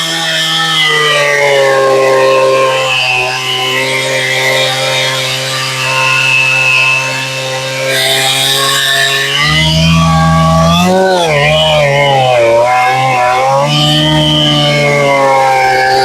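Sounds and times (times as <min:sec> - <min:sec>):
chainsaw cutting through log: 0:00.0 - 0:16.0.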